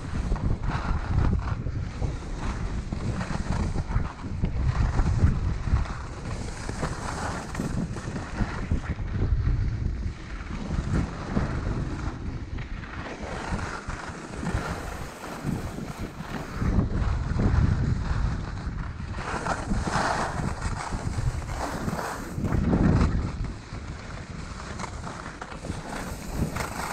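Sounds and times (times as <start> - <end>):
skis scraping over snow: 0.0 - 26.9
wind buffeting microphone: 0.0 - 26.9.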